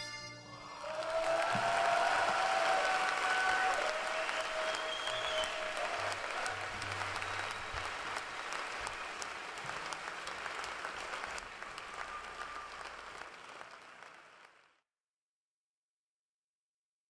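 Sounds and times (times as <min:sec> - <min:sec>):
audience applauding: 0:00.7 - 0:14.8.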